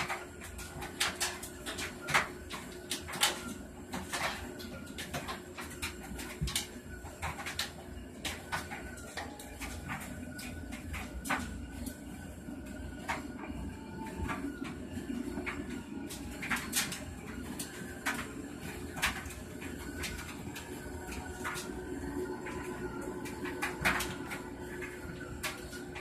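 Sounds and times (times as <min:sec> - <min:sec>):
aquarium air pump hum: 0:00.0 - 0:26.0.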